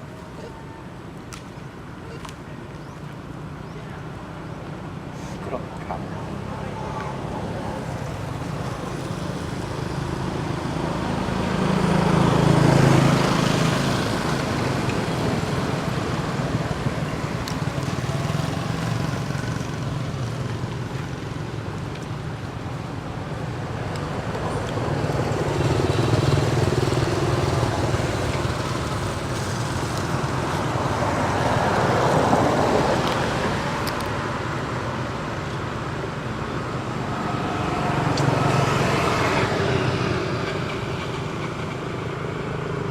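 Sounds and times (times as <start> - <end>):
vehicles passing by: 0.0 - 42.9.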